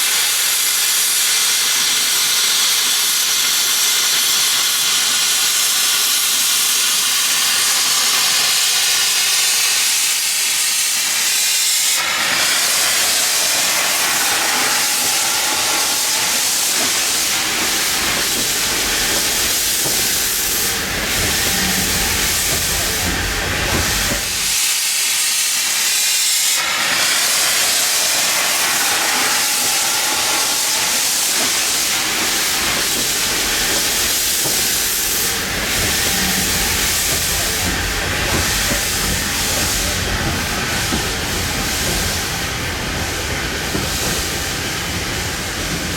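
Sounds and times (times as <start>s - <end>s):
steam hissing from locomotive: 0.0s - 45.9s.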